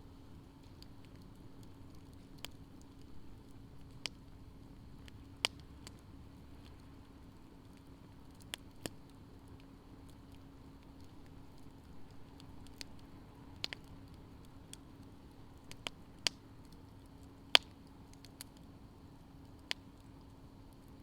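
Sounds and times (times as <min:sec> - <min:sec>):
campfire crackling and popping: 0:00.4 - 0:21.0.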